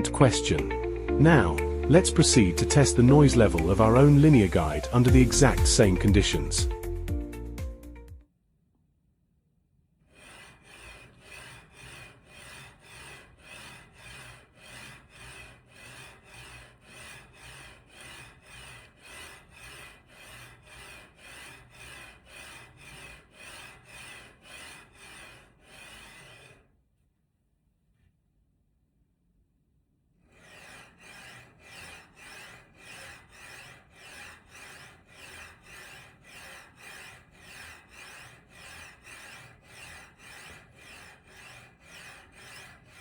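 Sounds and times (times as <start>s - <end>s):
rhythmic rubbing rasp of slider: 0.0s - 8.0s, 10.1s - 26.8s, 30.2s - 43.0s.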